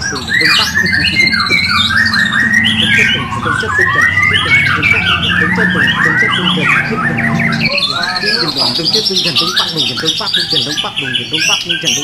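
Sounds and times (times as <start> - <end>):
steady low hum: 0.0 - 10.8
songbird whistling phrases: 0.0 - 12.0.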